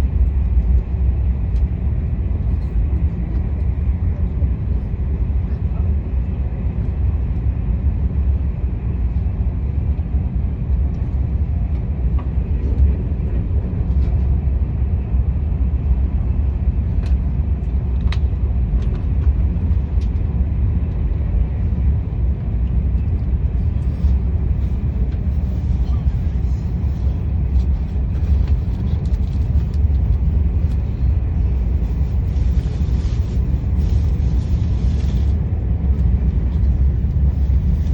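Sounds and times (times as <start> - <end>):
train running rumble: 0.0 - 37.9.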